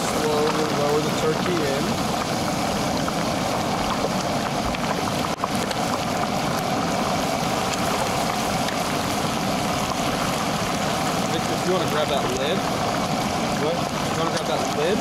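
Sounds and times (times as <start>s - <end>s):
hot oil bubbling and sizzling: 0.0s - 15.0s.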